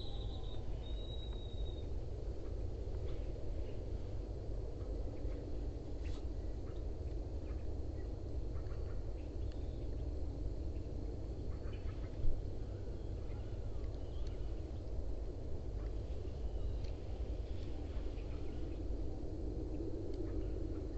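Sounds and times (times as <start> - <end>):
low rumble: 0.0 - 20.9.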